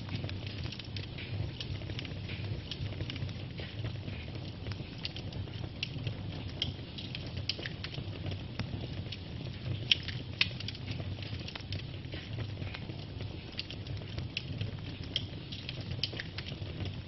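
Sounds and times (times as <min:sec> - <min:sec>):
logs crackling and popping: 0:00.0 - 0:17.0
low rumble of flame: 0:00.0 - 0:17.0.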